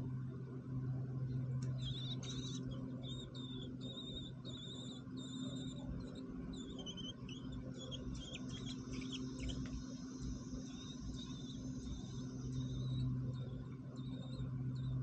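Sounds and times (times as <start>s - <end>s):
steady low hum: 0.0s - 15.0s
nestlings begging chirps: 1.6s - 15.0s.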